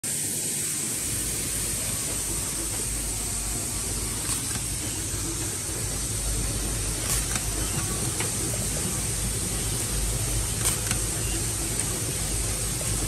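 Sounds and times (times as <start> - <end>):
machine hiss and hum: 0.0 - 13.0.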